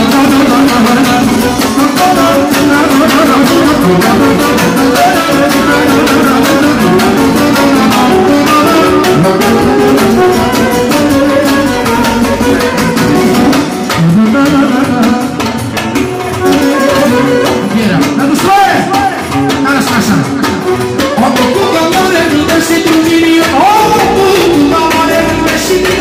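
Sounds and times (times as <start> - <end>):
electronic keyboard: 0.0 - 26.0
live band music: 0.0 - 26.0
steady beat: 0.0 - 26.0
violin: 0.0 - 26.0.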